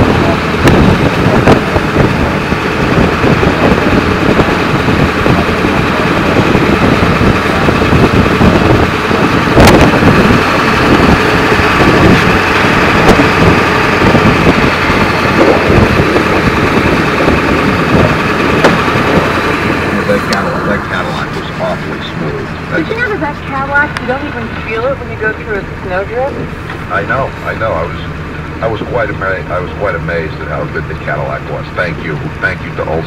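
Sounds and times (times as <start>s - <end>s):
diesel engine running under load: 0.0s - 33.0s
road noise: 0.0s - 33.0s.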